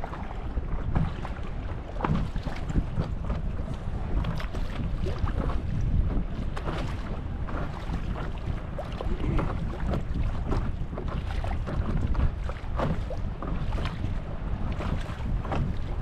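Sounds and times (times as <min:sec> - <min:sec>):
choppy water splashing: 0:00.0 - 0:16.0
wind buffeting microphone: 0:00.0 - 0:16.0.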